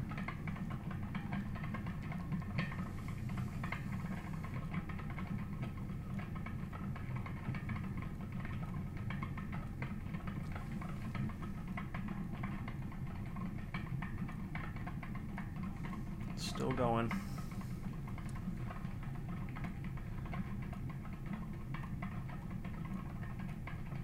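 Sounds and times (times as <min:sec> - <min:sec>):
generator humming with rapid ticking: 0:00.0 - 0:24.0.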